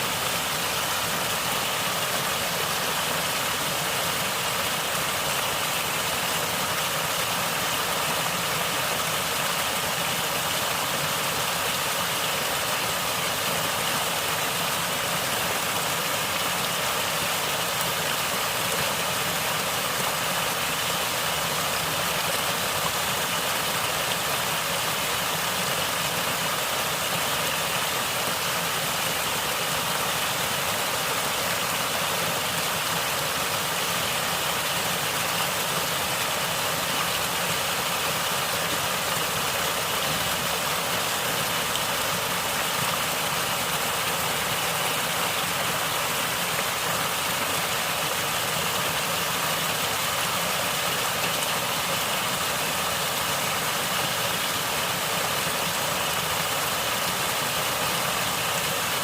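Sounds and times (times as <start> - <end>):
water gurgling and flowing: 0.0 - 59.0.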